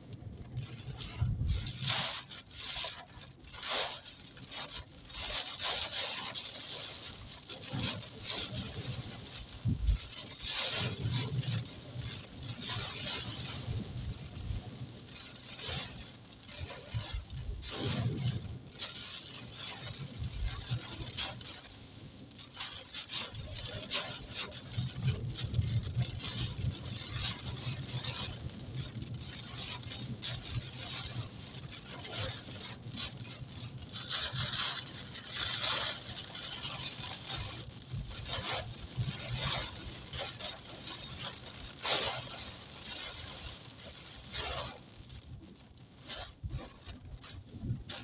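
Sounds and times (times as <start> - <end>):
engine and tyres rumbling on wet road: 0.0 - 48.0
heavy rain on car windscreen: 0.0 - 48.0.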